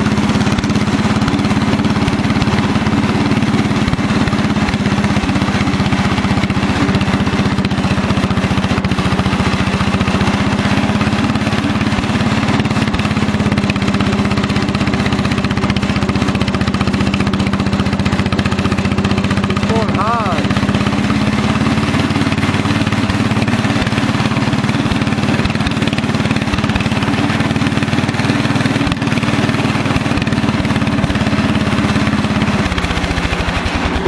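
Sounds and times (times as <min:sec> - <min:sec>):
tractor engine running steadily: 0:00.0 - 0:34.0.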